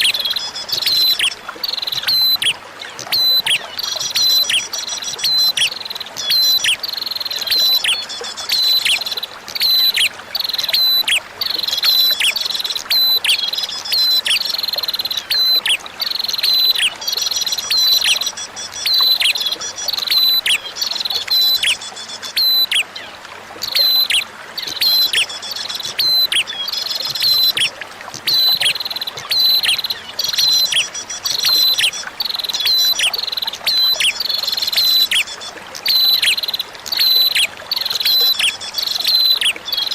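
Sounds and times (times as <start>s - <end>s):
trickling running water: 0.0s - 39.9s.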